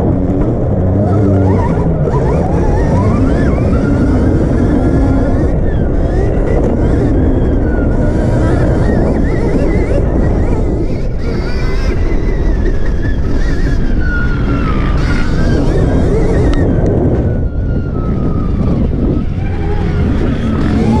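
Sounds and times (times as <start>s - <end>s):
electric motor whine: 0.0s - 21.0s
wind buffeting the microphone: 0.0s - 21.0s.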